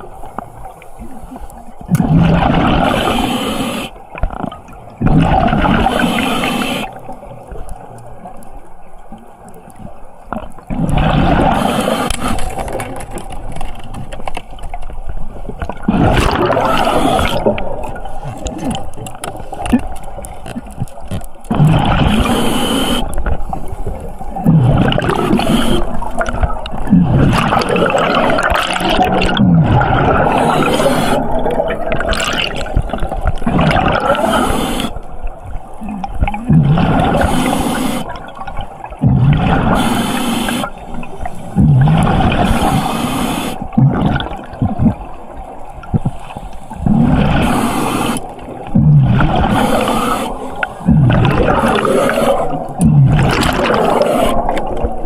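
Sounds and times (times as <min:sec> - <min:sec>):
underwater bubbling: 0:00.0 - 0:55.0
water gushing: 0:01.8 - 0:07.2, 0:10.3 - 0:55.0.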